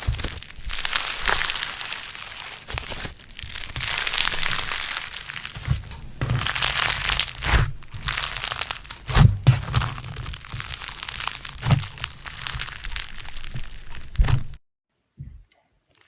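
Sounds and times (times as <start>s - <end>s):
crunchy slime crackling: 0.0s - 14.6s
slime popping: 0.0s - 14.6s.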